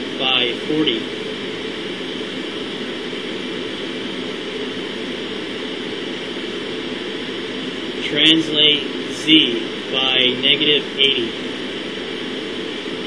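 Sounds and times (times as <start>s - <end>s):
fan and air-handling hum: 0.0s - 13.0s.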